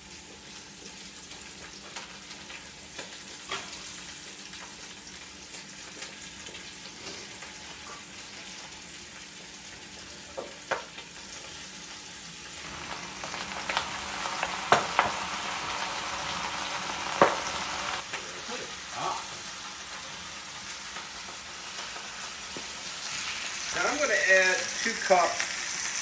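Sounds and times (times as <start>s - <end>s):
sausages sizzling in a pan: 0.0s - 26.0s.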